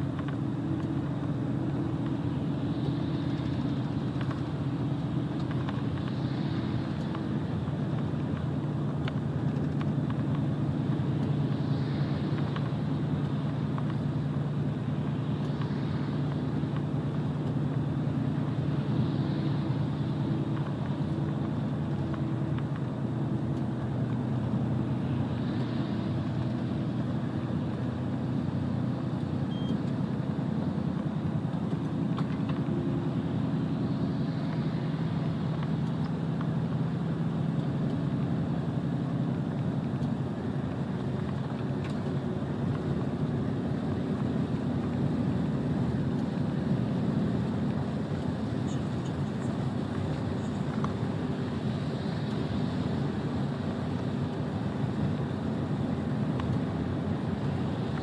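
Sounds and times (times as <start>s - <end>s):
tyre and road noise: 0.0s - 58.0s.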